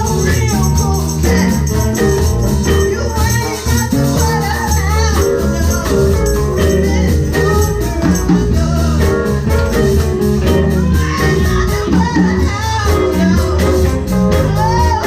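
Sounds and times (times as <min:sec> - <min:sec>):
bass line: 0:00.0 - 0:15.0
guitar: 0:00.0 - 0:15.0
live blues band playing: 0:00.0 - 0:15.0
person singing: 0:00.0 - 0:15.0.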